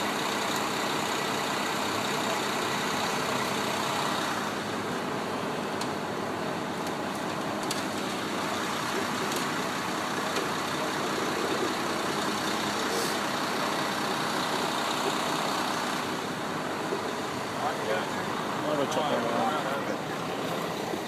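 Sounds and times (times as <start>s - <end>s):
street traffic: 0.0s - 21.0s
truck engine running: 0.0s - 21.0s.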